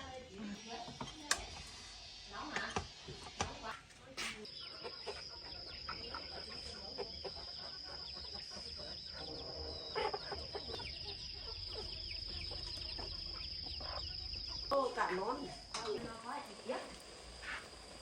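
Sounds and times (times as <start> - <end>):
chickens clucking and peeping: 0.0 - 18.0
high-pitched insect drone: 0.0 - 18.0.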